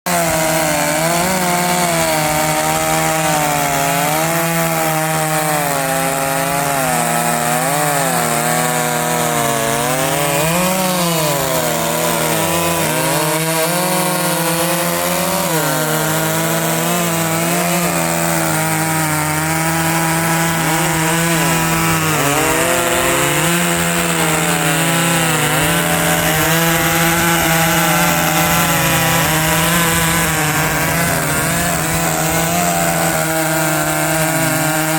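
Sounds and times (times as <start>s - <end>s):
chainsaw cutting a log: 0.0s - 34.9s.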